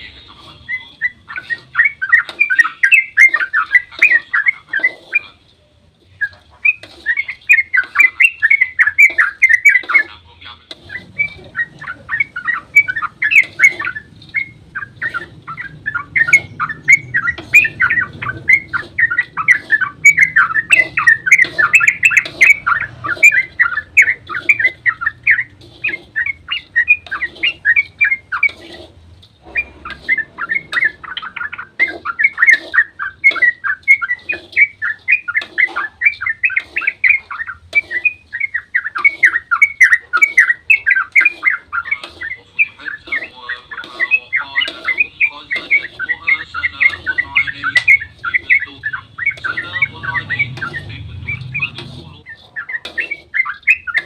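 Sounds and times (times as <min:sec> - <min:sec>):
bulbul chattering song: 0:00.0 - 0:54.0.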